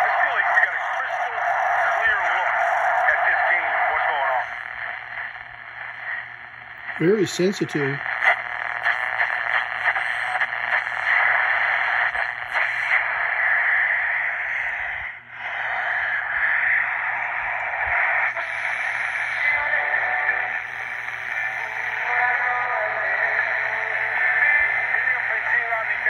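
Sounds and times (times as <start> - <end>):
radio broadcast through small speaker: 0.0 - 26.0
radio hiss: 0.0 - 26.0.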